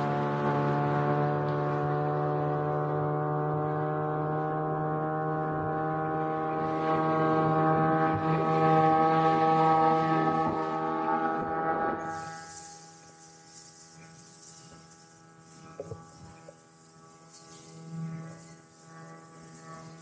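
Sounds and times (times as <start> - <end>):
motorboat engine droning: 0.0 - 20.0.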